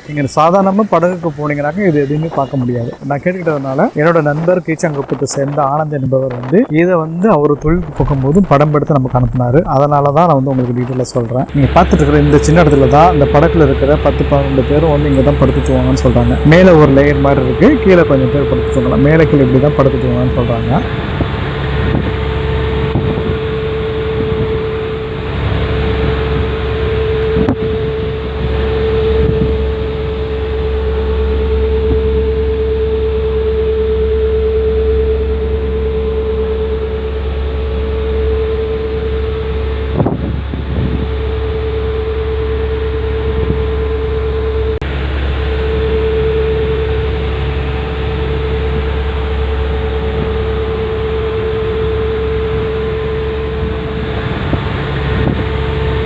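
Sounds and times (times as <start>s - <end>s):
boat engine low rumble: 0.0s - 56.0s
constant engine hum: 0.0s - 56.0s.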